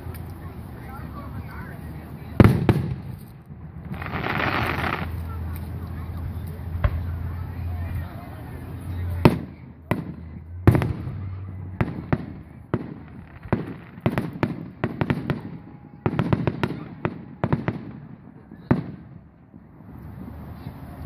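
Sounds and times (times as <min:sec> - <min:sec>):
fireworks exploding: 0:00.4 - 0:21.0.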